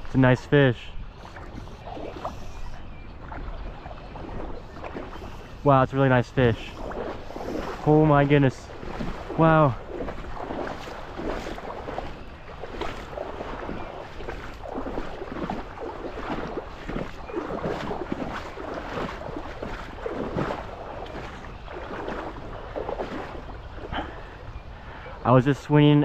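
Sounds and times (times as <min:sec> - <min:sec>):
river water splashing: 0:00.0 - 0:26.0
wind rumble on microphone: 0:00.0 - 0:26.0.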